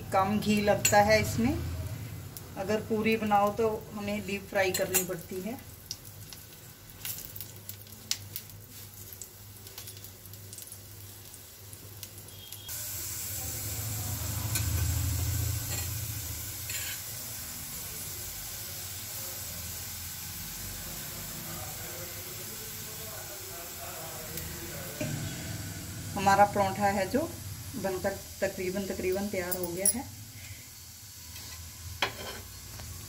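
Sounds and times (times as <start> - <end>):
flatbread sizzling on pan: 0.0 - 33.0.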